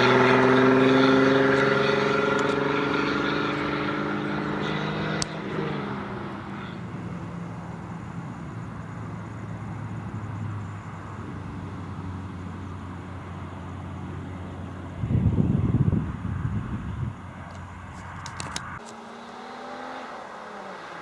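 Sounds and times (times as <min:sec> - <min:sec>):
car engine driving away: 0:00.0 - 0:21.0.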